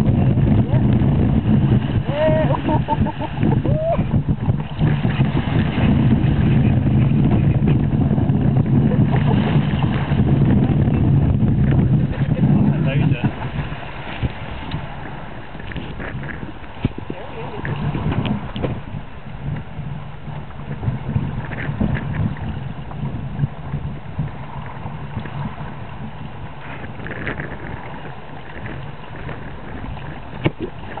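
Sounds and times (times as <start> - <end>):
water rushing along hull: 0.0 - 31.0
wind rumble on microphone: 0.0 - 31.0.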